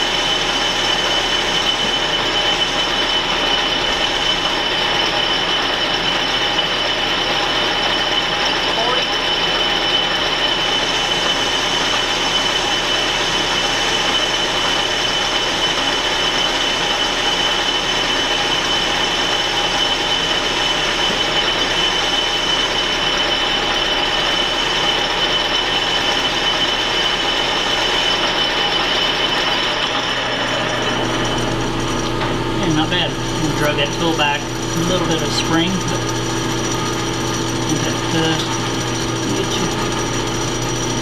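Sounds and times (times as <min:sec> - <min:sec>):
machine running noise: 0:00.0 - 0:41.0
metal lathe cutting hiss: 0:00.0 - 0:41.0.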